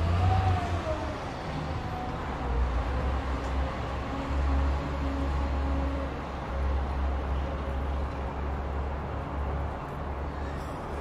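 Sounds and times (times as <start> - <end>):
heavy vehicle rumble: 0.0 - 11.0.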